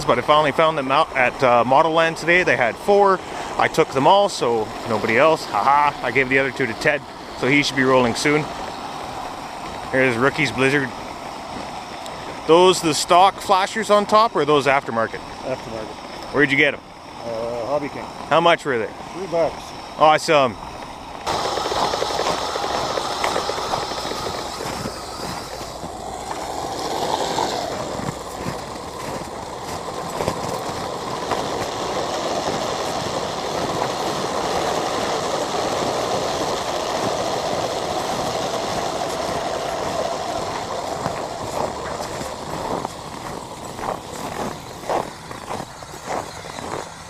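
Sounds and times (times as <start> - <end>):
electric motor and gears whine: 0.0 - 47.0
track noise on snow: 0.0 - 47.0.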